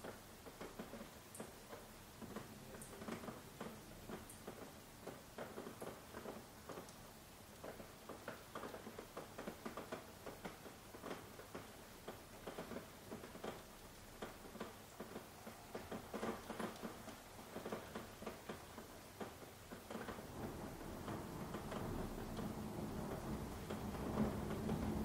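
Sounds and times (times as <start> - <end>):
soft rain pattering: 0.0 - 25.0.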